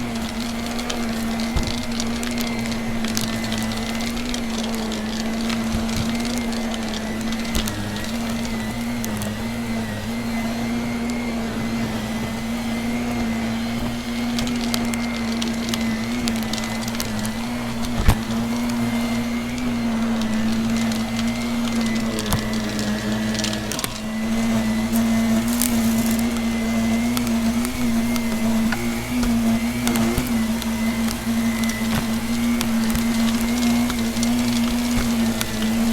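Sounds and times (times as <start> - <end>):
debris crackling being sucked up: 0.0 - 35.9
vacuum cleaner running: 0.0 - 35.9.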